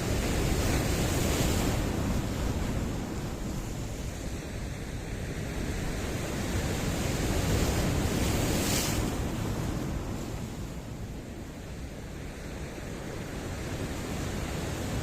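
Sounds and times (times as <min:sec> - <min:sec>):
surf washing over rocks: 0:00.0 - 0:15.0.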